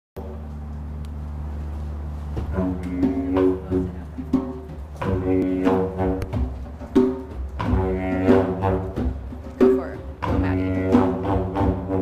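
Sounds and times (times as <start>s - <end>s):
didgeridoo drone: 0.2s - 12.0s
hand drum strikes: 2.4s - 12.0s.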